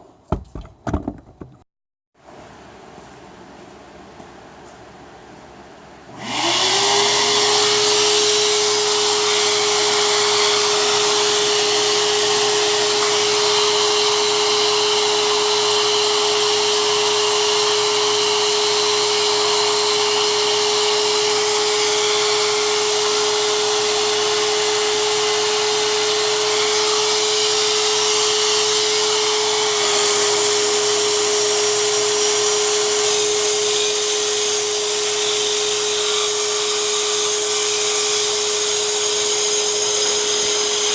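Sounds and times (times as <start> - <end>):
circular saw whining: 6.1 - 40.9.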